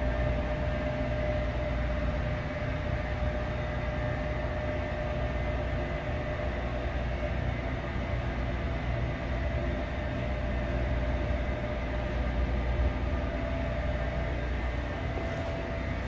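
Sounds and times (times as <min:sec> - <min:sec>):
ventilation rumble and hiss: 0:00.0 - 0:16.0.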